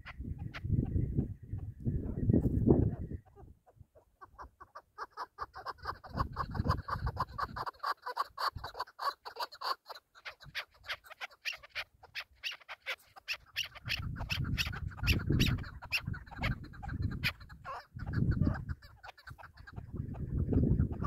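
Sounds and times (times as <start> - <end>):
partridge chuck calls: 0.0 - 21.0.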